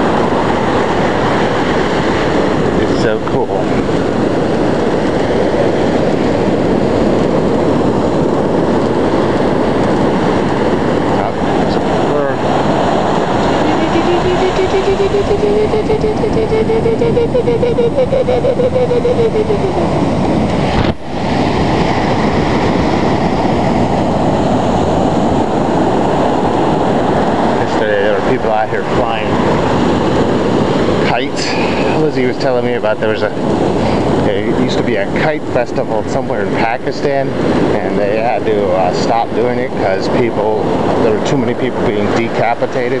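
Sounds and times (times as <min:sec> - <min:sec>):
ocean surf: 0:00.0 - 0:43.0
wind on microphone: 0:00.0 - 0:43.0.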